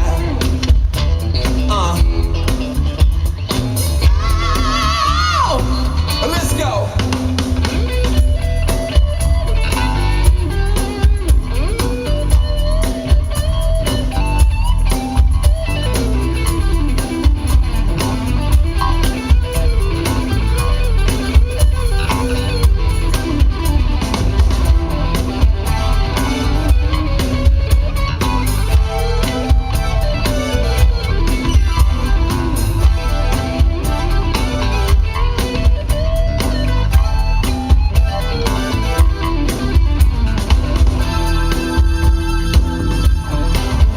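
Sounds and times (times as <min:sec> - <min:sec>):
bass: 0:00.0 - 0:43.9
drum kit steady beat: 0:00.0 - 0:43.9
electric guitar melody: 0:00.0 - 0:43.9.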